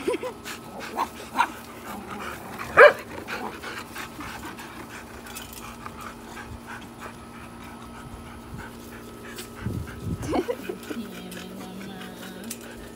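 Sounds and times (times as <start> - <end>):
dog panting: 0.4 - 12.9.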